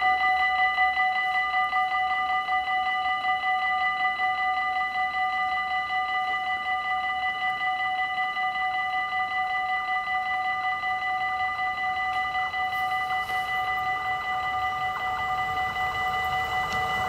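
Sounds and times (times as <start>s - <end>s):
level crossing bells ringing: 0.0s - 17.0s.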